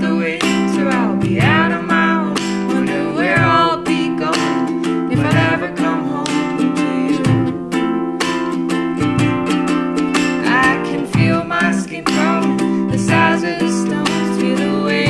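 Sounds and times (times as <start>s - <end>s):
woman singing: 0.0s - 8.0s, 10.0s - 15.0s
ukulele strumming: 0.0s - 15.0s.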